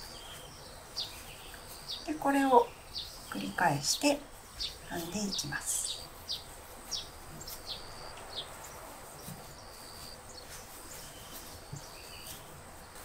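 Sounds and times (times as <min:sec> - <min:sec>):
low steady hiss: 0:00.0 - 0:13.0
small birds chirping: 0:00.0 - 0:13.0.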